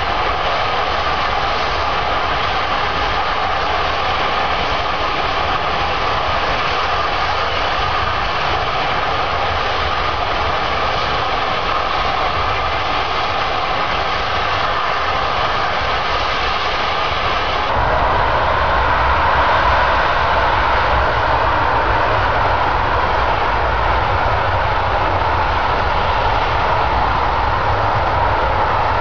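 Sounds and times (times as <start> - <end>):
gas jetting with rushing hiss: 0.0 - 29.0.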